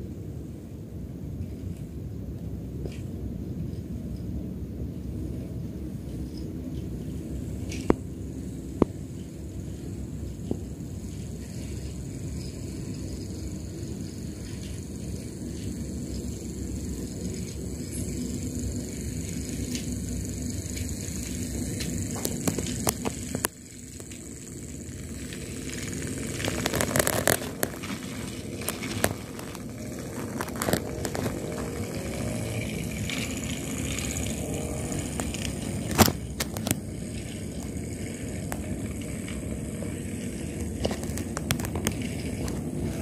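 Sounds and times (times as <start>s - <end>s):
wheel rattles and clicks: 1.3s - 43.0s
toy train running on track: 5.3s - 43.0s.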